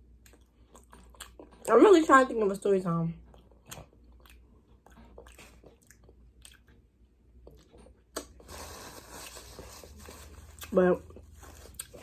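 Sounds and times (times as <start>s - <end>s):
close-up chewing: 0.0s - 1.8s, 3.2s - 12.0s.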